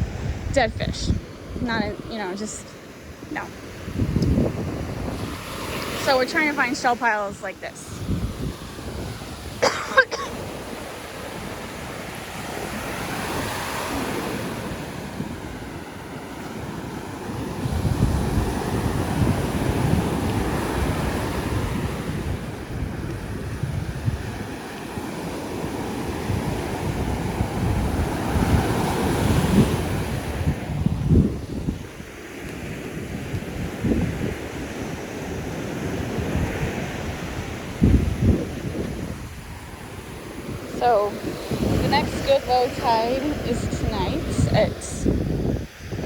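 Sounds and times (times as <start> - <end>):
surf washing onto beach: 0.0 - 46.0
wind buffeting microphone: 0.0 - 46.0.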